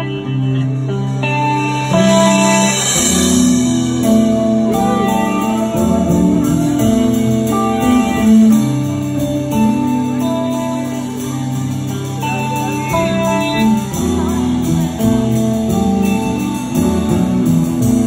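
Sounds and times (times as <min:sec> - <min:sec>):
electric guitar chords: 0:00.0 - 0:18.0
low held bass notes: 0:00.0 - 0:18.0.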